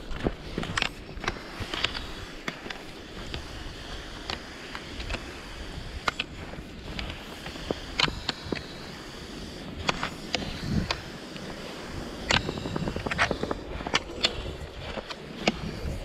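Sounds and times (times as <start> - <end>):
ski poles clicking: 0.0 - 16.0
skis scraping over snow: 0.0 - 16.0.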